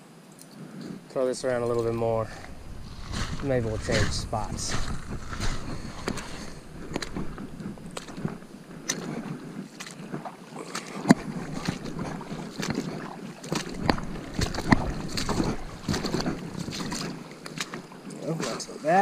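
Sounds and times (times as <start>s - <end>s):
boots splashing through shallow water: 0.9s - 19.0s.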